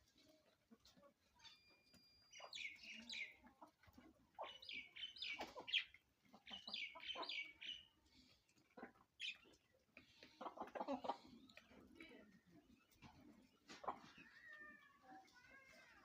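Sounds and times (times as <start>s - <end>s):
hens clucking and squawking: 0.0s - 1.4s, 2.3s - 15.1s.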